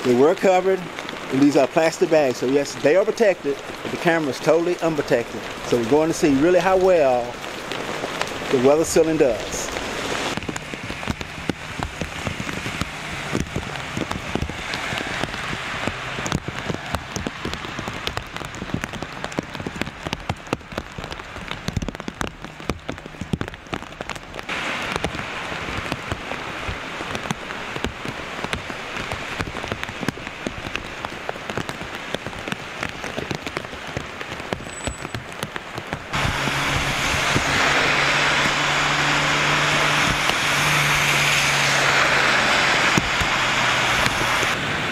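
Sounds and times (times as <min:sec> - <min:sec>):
car tyres on wet road: 0:00.0 - 0:44.9
rain drops ticking: 0:00.0 - 0:44.9
rain hiss: 0:00.0 - 0:44.9.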